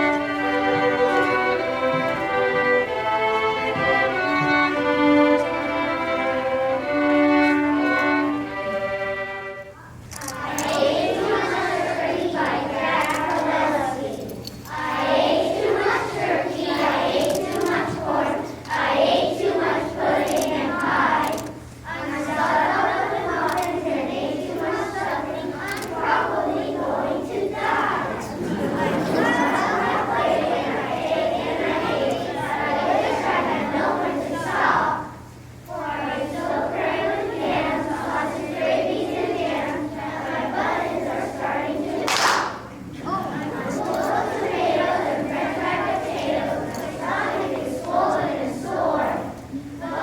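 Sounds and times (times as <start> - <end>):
children singing together: 0.0 - 50.0.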